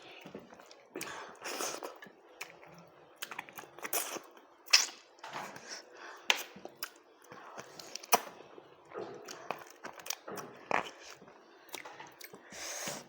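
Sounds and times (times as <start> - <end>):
person chewing rice: 0.0 - 13.0.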